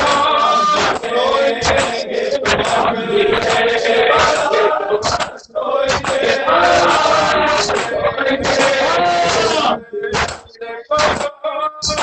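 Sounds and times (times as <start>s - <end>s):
crowd slapping chests: 0.0s - 12.0s
man chanting over a microphone: 0.0s - 12.0s.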